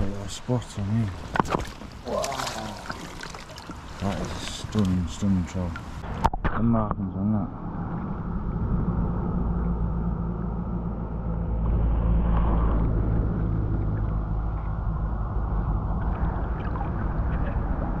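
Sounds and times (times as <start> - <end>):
river water flowing and gurgling: 0.0 - 6.4, 7.5 - 18.0.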